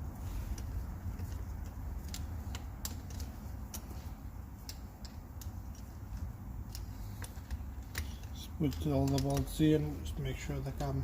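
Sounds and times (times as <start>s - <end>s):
low steady hum: 0.0s - 11.0s
small metal parts clicking: 0.0s - 11.0s.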